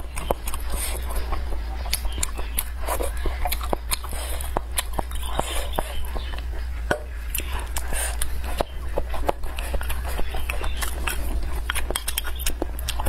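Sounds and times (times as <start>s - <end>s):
steady low hum: 0.0s - 13.0s
wet crunchy chewing: 0.0s - 13.0s.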